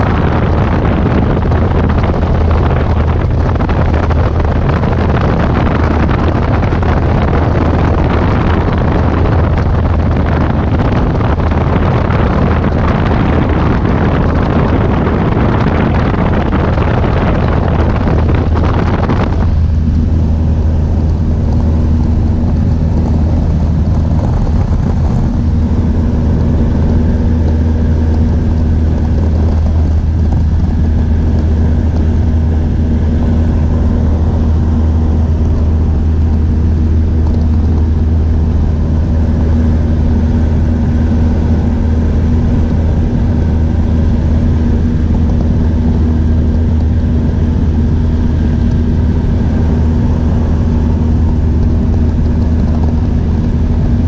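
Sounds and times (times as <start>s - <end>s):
light aircraft engine drone: 0.0s - 54.0s
loud rushing wind: 0.0s - 54.0s.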